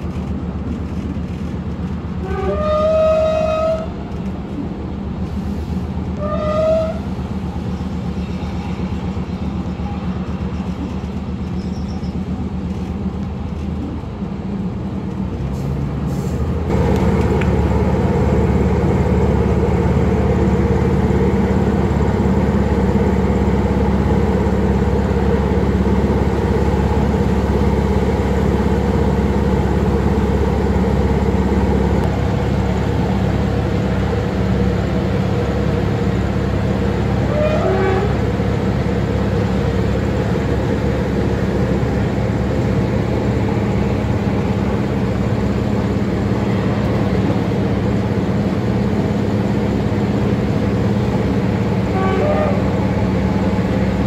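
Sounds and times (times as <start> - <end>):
train diesel engines running: 0.0 - 54.0.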